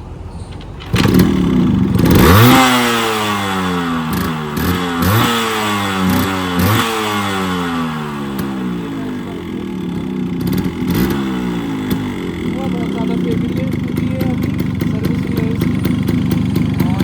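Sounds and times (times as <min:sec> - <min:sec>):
motorcycle engine revving: 0:00.6 - 0:17.0.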